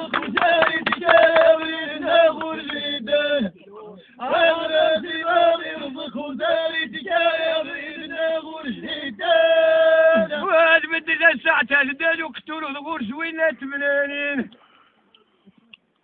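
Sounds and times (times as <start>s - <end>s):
old man chanting: 0.0s - 14.6s.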